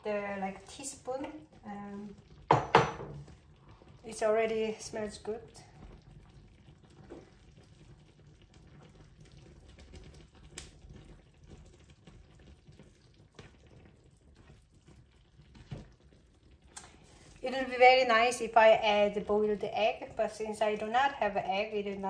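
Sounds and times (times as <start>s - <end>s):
sauce simmering in a pan: 0.0s - 22.0s.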